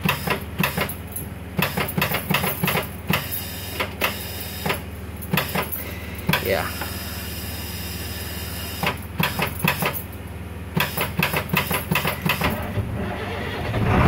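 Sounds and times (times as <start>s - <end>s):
bus engine cranking and starting: 0.0s - 10.1s, 10.7s - 14.0s.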